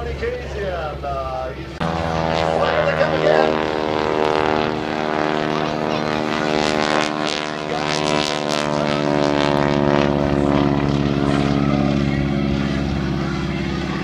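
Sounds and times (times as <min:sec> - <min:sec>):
airplane passing rush: 0:00.0 - 0:14.0
propeller airplane droning: 0:00.0 - 0:14.0.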